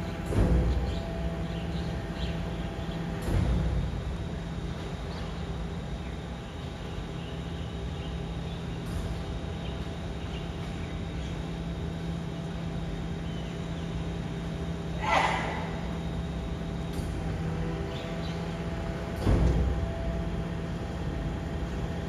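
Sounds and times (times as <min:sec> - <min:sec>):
refuse truck machine hum: 0:00.0 - 0:22.0.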